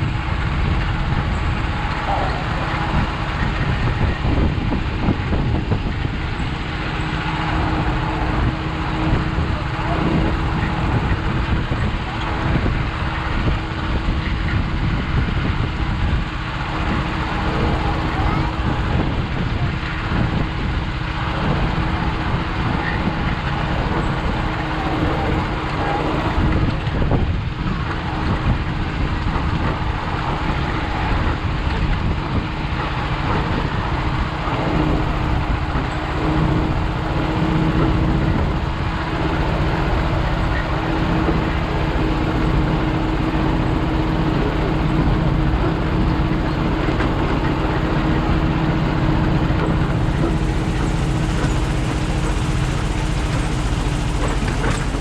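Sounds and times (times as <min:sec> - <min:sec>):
motor engine humming: 0:00.0 - 0:55.0.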